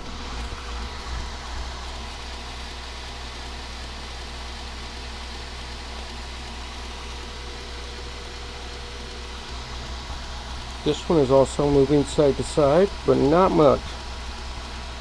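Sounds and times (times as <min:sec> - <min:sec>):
belt grinder running: 0:00.0 - 0:15.0.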